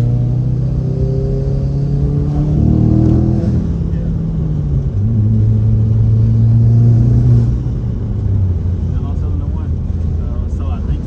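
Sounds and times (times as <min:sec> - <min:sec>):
car engine under throttle: 0:00.0 - 0:11.0.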